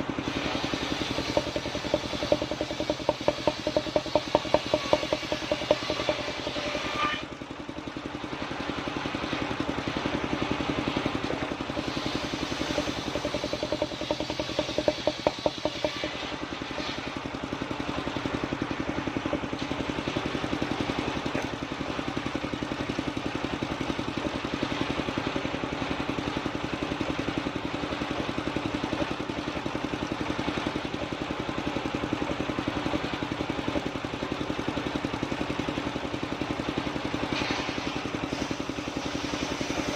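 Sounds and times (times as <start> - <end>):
sawmill engine chugging: 0.0 - 39.9.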